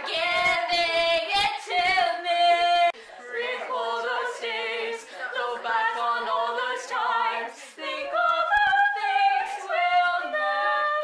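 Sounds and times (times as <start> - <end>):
girls singing a cappella: 0.0 - 11.0.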